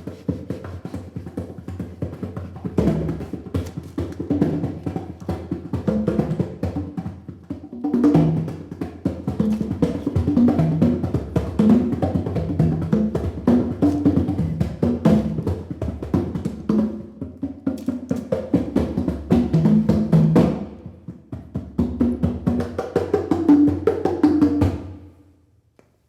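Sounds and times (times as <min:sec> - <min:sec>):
live percussion music: 0:00.0 - 0:25.0.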